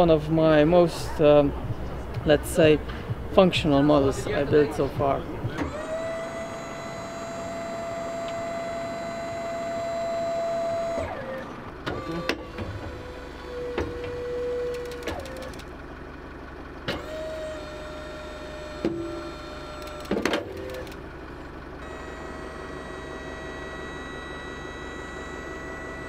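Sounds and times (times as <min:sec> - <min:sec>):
constant low hum: 0:00.0 - 0:26.0
motor whine: 0:01.1 - 0:15.9, 0:16.7 - 0:26.0.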